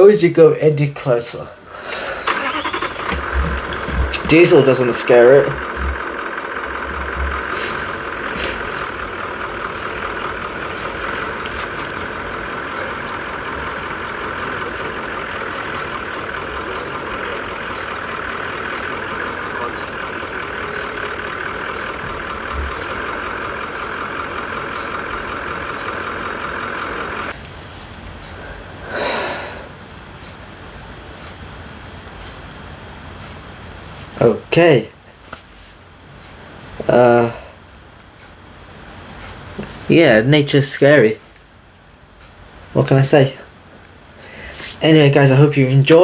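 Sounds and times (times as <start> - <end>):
vehicle engine idling: 1.6 - 45.9.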